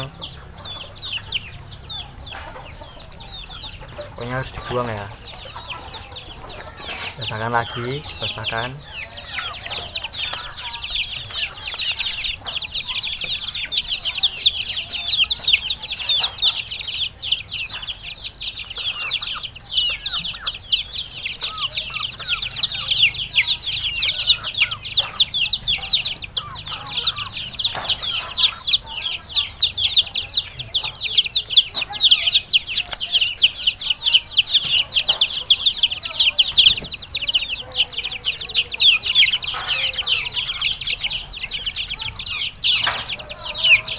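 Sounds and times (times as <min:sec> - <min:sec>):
chicks peeping: 0:00.0 - 0:43.9.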